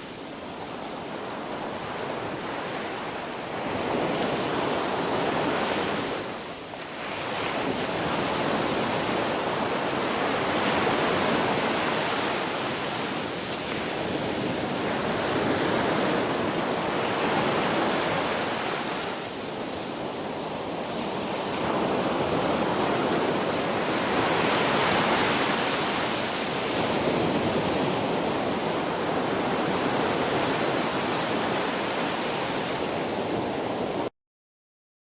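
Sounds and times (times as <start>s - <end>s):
waves breaking on a beach: 0.0s - 34.1s.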